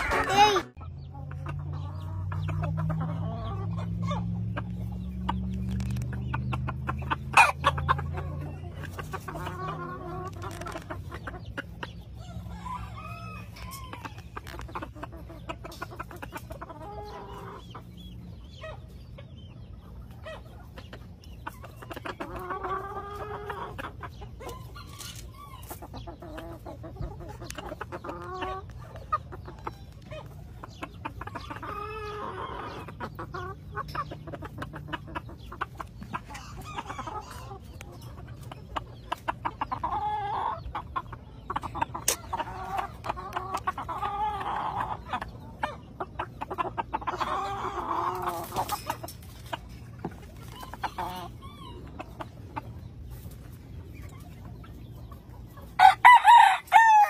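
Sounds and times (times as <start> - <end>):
chickens clucking and calling: 0.0 - 57.0.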